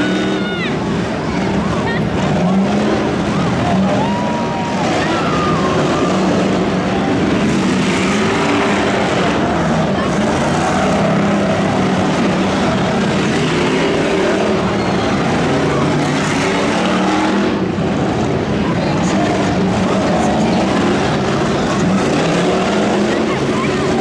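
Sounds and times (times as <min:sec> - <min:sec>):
constant roar of noise: 0:00.0 - 0:24.0
race car engines running: 0:00.0 - 0:24.0.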